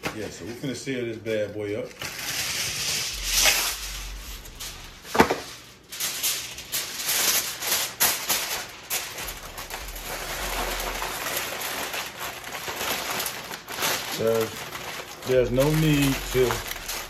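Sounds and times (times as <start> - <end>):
aluminum foil crinkling: 0.0 - 17.0.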